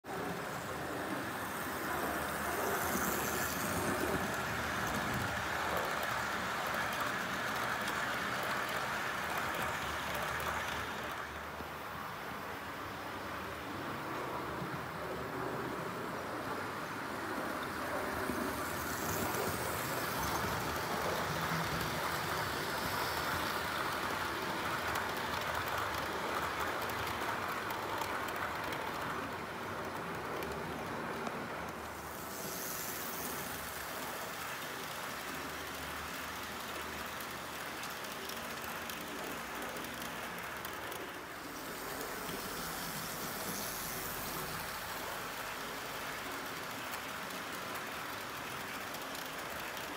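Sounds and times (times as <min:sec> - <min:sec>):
model train wheels rattling on rails: 0:00.2 - 0:11.8, 0:16.6 - 0:49.9.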